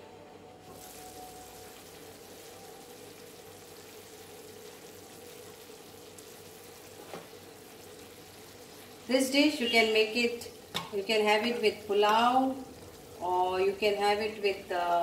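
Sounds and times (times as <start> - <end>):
faint steady hum: 0.0 - 15.0
curry sizzling in a pan: 0.6 - 15.0.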